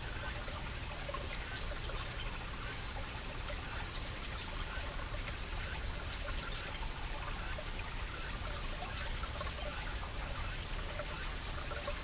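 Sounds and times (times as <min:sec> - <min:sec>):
cicadas: 0:00.0 - 0:12.0
stream flowing over rocks: 0:00.0 - 0:12.0.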